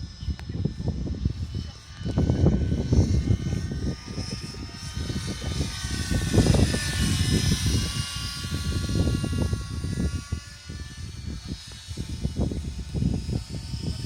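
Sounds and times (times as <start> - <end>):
model helicopter rotor whine: 0.0 - 14.0
wind buffeting microphone: 0.0 - 14.0.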